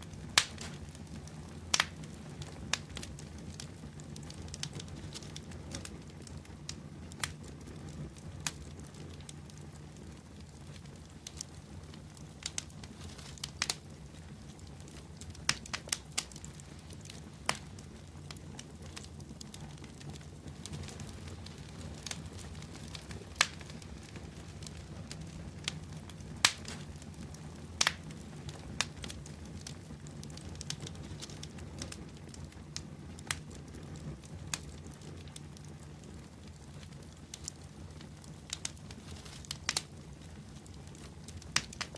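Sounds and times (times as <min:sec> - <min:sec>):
bonfire flames rushing: 0:00.0 - 0:41.9
wood crackling and popping: 0:00.0 - 0:41.9.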